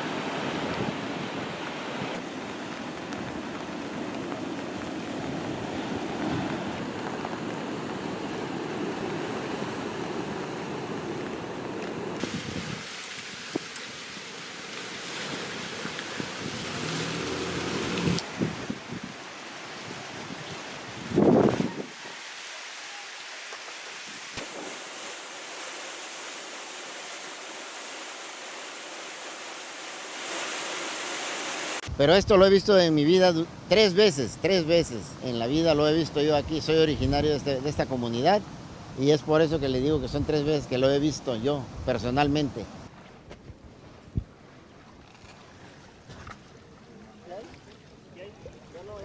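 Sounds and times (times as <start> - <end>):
rushing water: 0.0 - 49.0
wind: 0.0 - 49.0.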